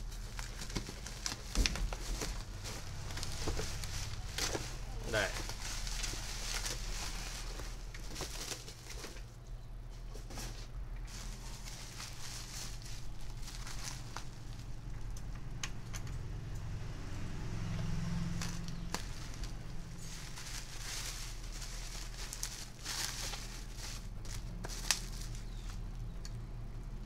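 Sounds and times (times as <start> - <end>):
bubble wrap crinkling: 0.0 - 9.3, 10.3 - 15.0, 18.2 - 26.3.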